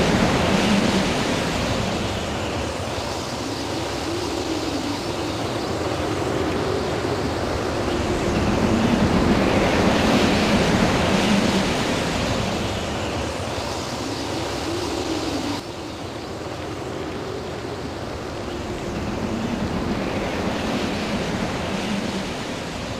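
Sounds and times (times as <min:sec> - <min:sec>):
storm wind rushing in gusts: 0:00.0 - 0:22.9.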